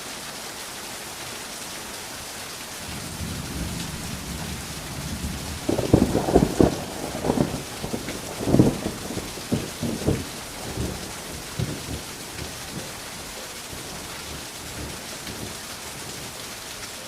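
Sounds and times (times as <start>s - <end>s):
heavy rain: 0.0s - 17.0s
rumbling thunder: 2.8s - 16.6s.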